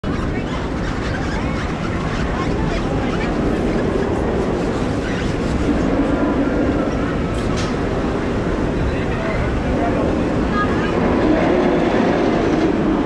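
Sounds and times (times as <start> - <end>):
ride machinery: 0.0 - 13.0
riders' voices chattering: 0.0 - 13.0.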